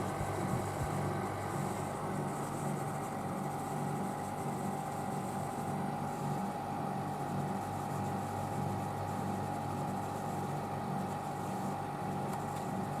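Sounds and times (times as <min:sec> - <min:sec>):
air conditioner humming: 0:00.0 - 0:13.0
mid-pitched whine: 0:00.0 - 0:13.0.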